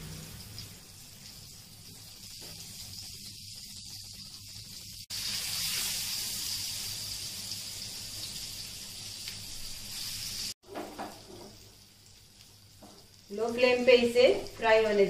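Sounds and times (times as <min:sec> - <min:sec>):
eggs sizzling in hot fat: 0:00.0 - 0:15.0.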